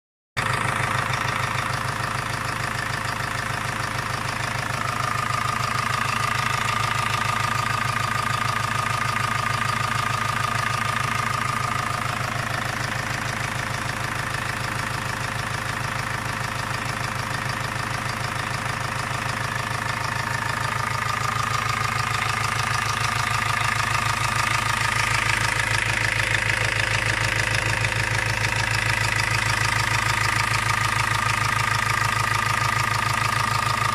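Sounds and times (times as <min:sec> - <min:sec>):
diesel engine idling with knock: 0:00.4 - 0:33.9.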